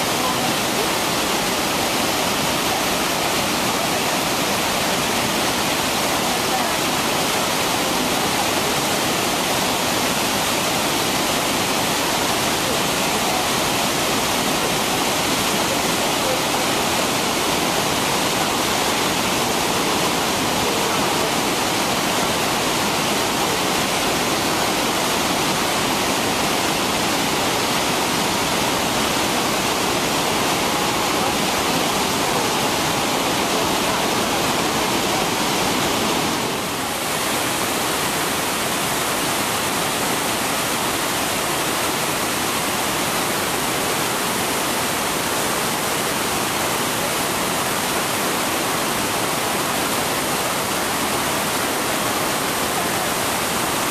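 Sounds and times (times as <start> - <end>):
rush of falling water: 0.0 - 53.9.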